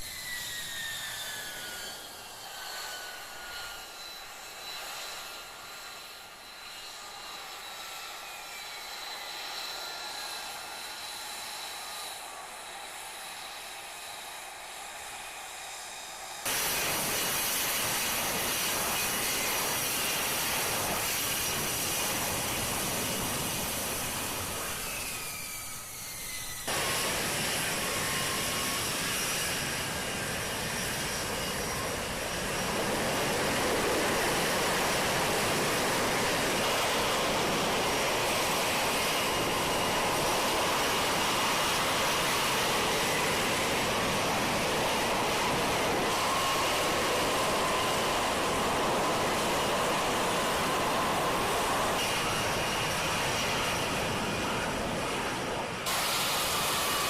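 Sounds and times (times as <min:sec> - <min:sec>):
high turbine whine: 0:00.0 - 0:57.0
jet engine roaring: 0:00.0 - 0:57.0.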